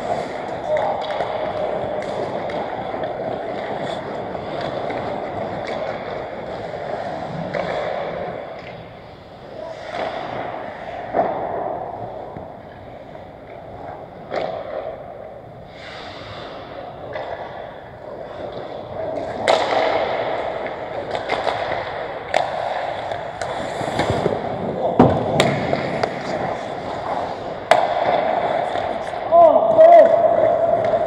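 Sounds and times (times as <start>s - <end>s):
skates scraping on ice: 0.0s - 15.0s, 15.6s - 31.0s
hockey sticks and puck clacking: 0.0s - 31.0s.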